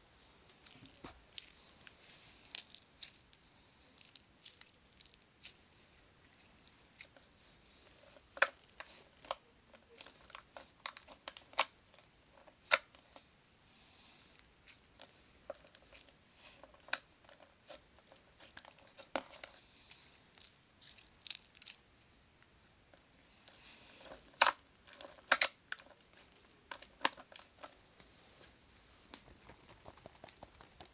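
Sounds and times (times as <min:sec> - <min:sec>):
clicks and crackles of balloons and slime: 0:00.5 - 0:13.3, 0:14.4 - 0:21.9, 0:22.9 - 0:28.1, 0:29.1 - 0:30.9.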